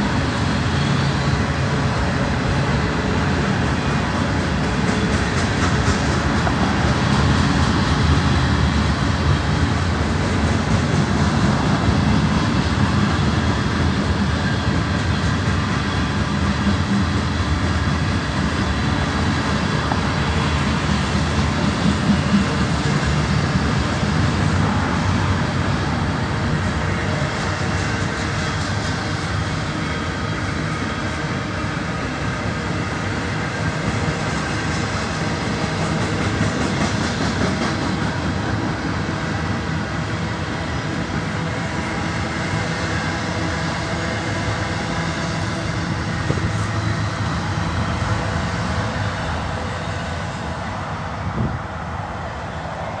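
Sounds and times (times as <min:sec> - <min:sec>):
freight train wheels clattering on rail: 0:00.0 - 0:52.9.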